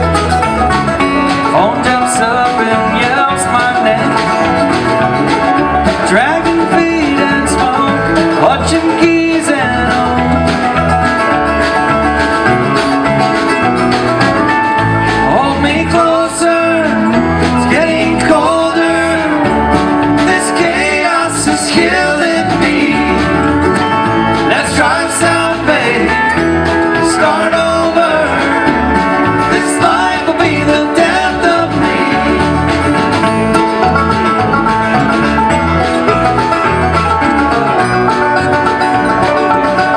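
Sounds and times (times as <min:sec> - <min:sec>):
picked banjo: 0:00.0 - 0:39.9
strummed acoustic guitar: 0:00.0 - 0:39.9.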